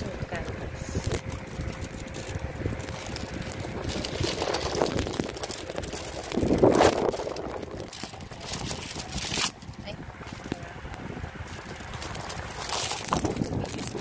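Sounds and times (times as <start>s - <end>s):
handling and rustling noise: 0.0s - 14.0s
wind buffeting microphone: 0.0s - 14.0s.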